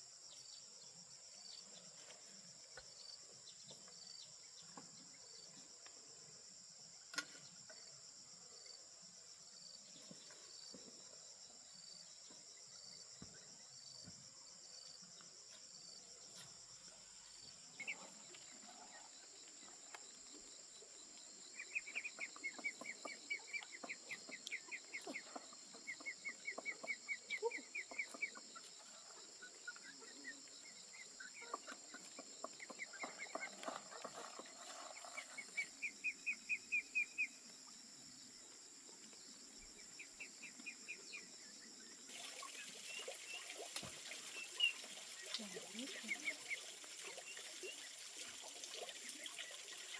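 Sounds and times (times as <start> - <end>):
insect chorus buzzing: 0.0 - 49.9.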